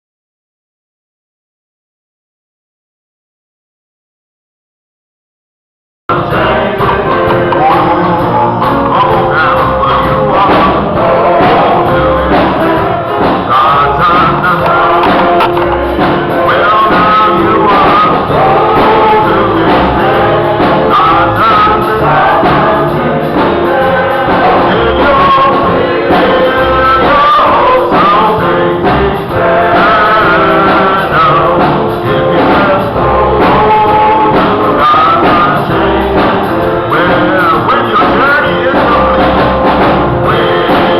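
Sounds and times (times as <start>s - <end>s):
gospel music with singing: 6.1s - 40.9s.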